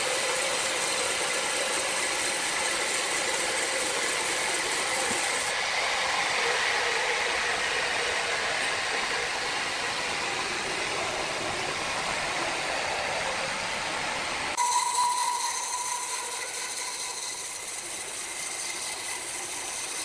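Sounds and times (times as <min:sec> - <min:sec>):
sawmill machinery whirring: 0:00.0 - 0:20.0.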